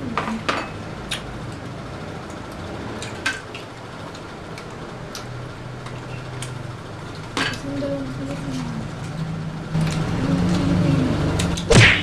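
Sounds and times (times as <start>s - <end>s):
steady low hum: 0.0s - 12.0s
utensils clicking on dishes: 0.2s - 11.7s.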